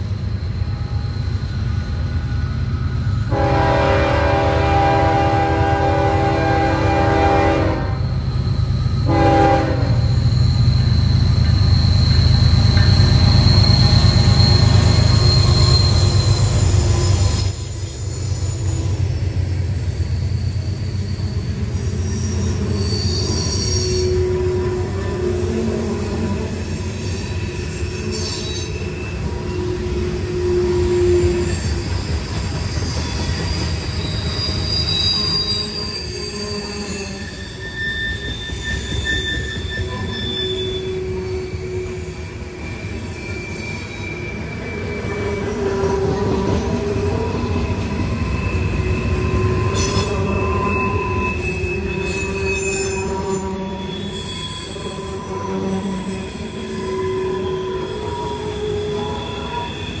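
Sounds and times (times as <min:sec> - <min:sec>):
freight train rumbling: 0:00.0 - 1:00.0
train wheels squealing on rails: 0:00.0 - 1:00.0.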